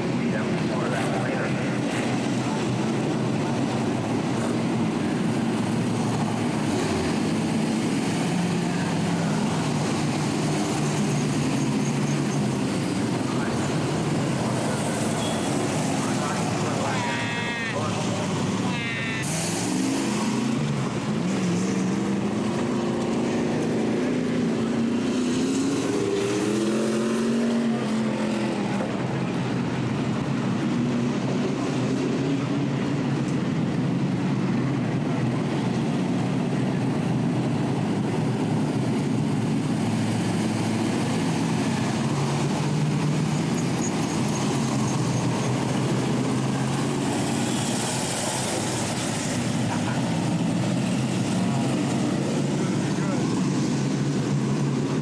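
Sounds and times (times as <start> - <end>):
stock car engines racing: 0.0 - 55.0.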